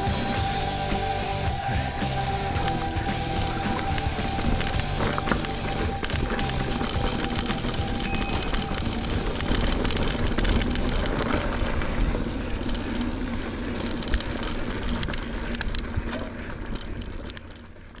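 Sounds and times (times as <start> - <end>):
bike tyres on rocky dirt trail: 0.0 - 18.0
bike frame and chain rattling: 1.5 - 18.0.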